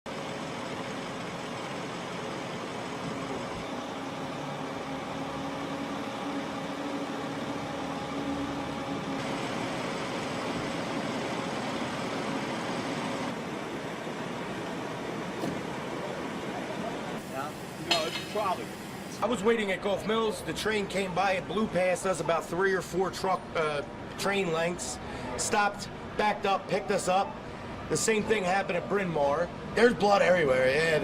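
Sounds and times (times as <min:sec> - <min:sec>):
vehicle engines running: 0:00.1 - 0:30.0
constant hum tones: 0:00.1 - 0:31.0.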